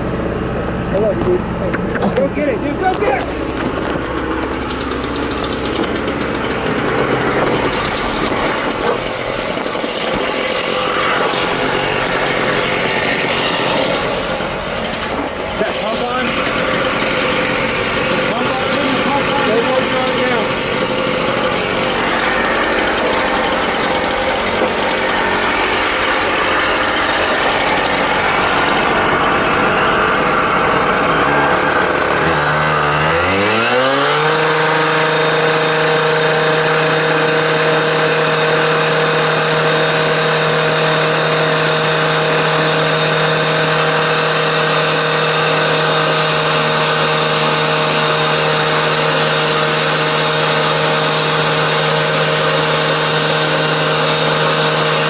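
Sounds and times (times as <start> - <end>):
engine running and revving: 0.0 - 55.0.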